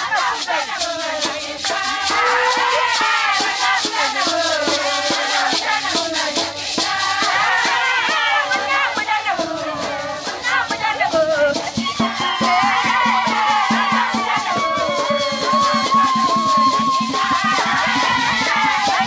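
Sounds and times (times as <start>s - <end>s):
gourd rattles shaking: 0.0s - 19.0s
women singing together: 0.0s - 19.0s.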